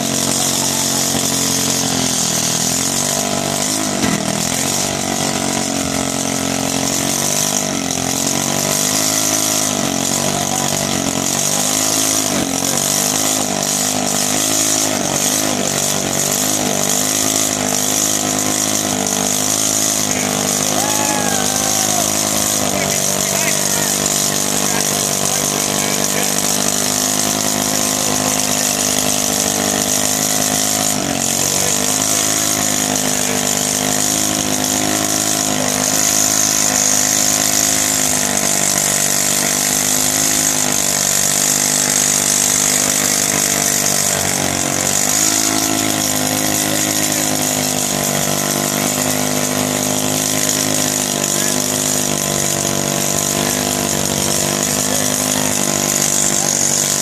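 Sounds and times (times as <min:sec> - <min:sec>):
go-kart engine at high revs: 0:00.0 - 0:57.0.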